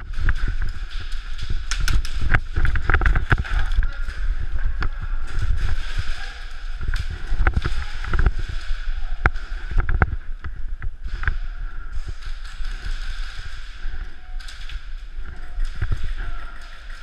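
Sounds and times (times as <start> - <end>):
footsteps: 0.0 - 17.0
steady background hum: 0.0 - 17.0.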